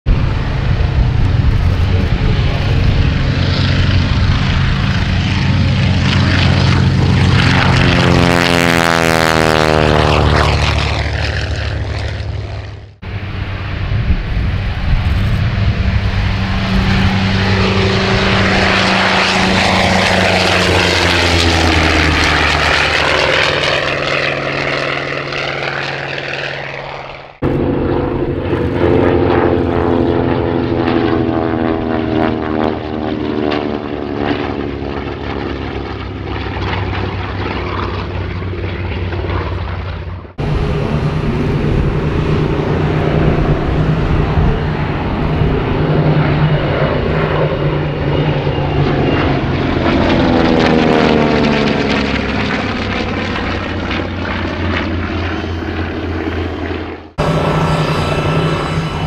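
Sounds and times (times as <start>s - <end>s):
propeller aircraft engines roaring: 0.1s - 59.0s.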